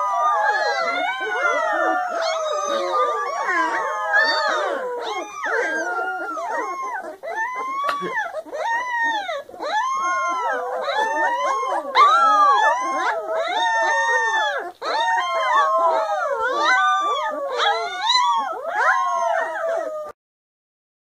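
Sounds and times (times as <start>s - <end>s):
puppies howling: 0.0s - 20.2s.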